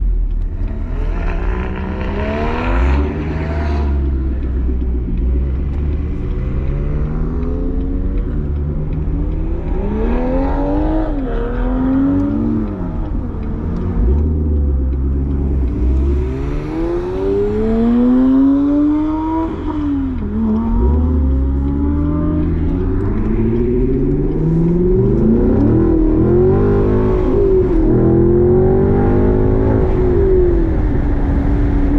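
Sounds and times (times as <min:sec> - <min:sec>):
sports car engines revving: 0:00.0 - 0:31.9.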